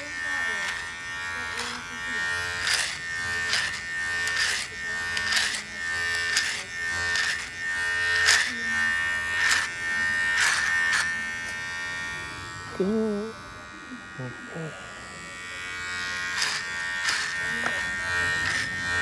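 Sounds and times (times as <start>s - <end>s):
clippers rasping through hair: 0.0s - 19.0s
electric hair clippers buzzing: 0.0s - 19.0s.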